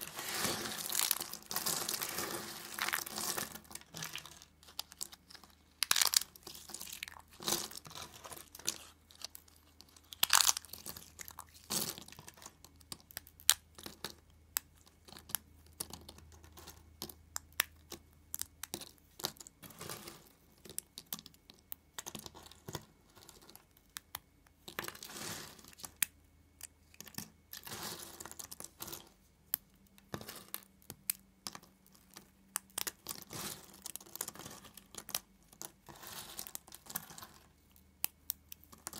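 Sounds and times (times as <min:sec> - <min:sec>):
soap plates snapping and crumbling: 0:00.0 - 0:35.8.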